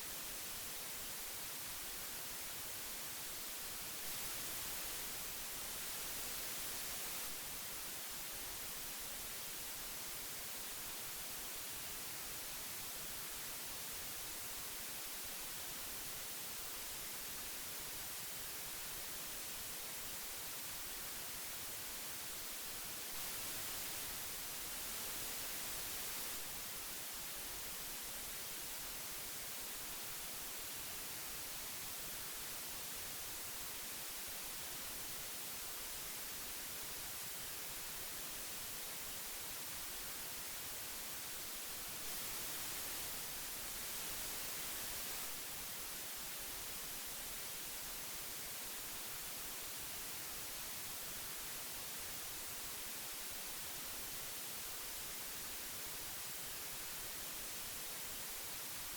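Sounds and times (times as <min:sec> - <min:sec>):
tape hiss: 0:00.0 - 0:58.9.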